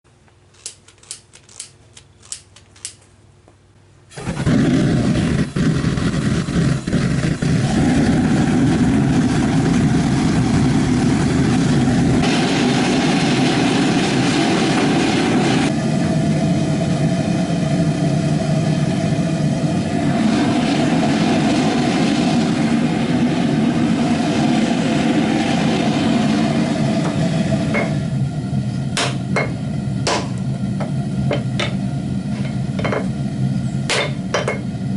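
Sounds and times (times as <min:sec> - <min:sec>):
forge rushing noise: 0:04.2 - 0:34.9.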